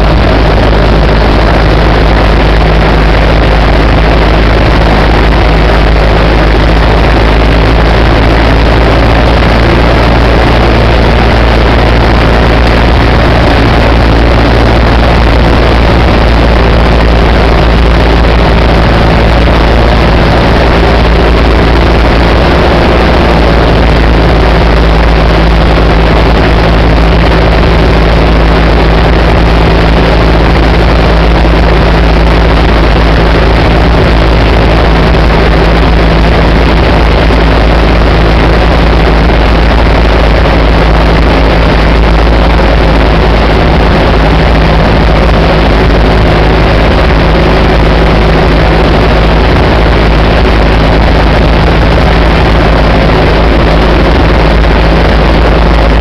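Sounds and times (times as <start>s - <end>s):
airplane engine drone in cabin: 0.0s - 56.0s.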